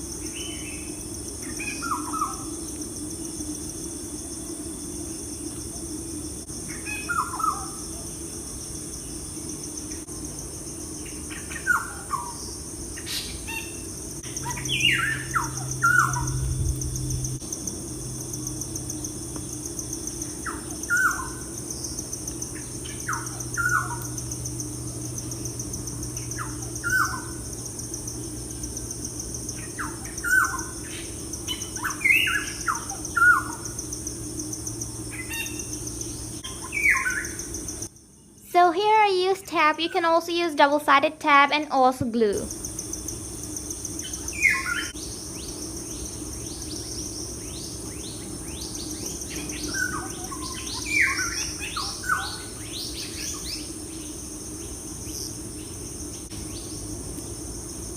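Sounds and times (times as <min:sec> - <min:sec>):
steady high-pitched hiss: 0:00.0 - 0:57.9.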